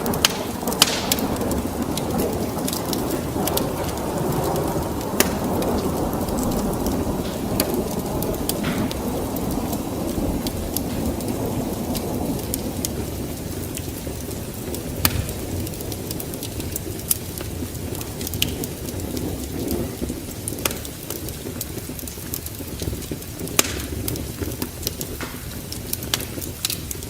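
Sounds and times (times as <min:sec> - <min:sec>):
low rolling thunder: 0:00.0 - 0:27.0
steady rain: 0:00.0 - 0:27.0.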